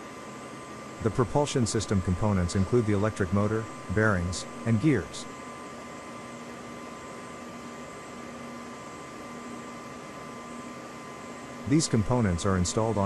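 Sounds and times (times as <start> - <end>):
faint high whine: 0.0 - 13.0
workshop hum and hiss: 0.0 - 13.0.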